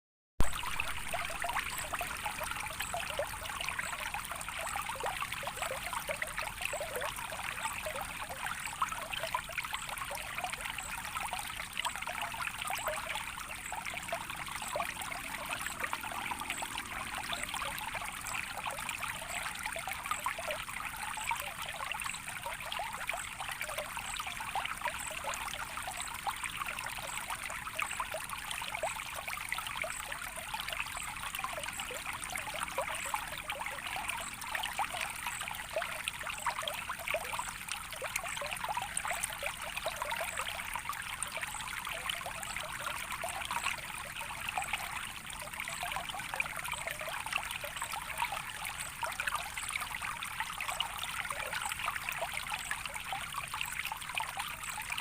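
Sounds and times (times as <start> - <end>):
shallow water babbling: 0.4 - 55.0.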